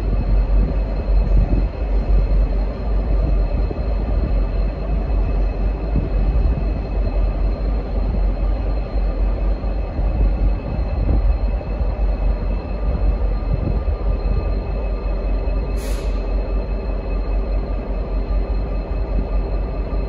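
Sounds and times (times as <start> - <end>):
diesel locomotive engine rumble: 0.0 - 20.0
faint steady whine: 0.0 - 20.0.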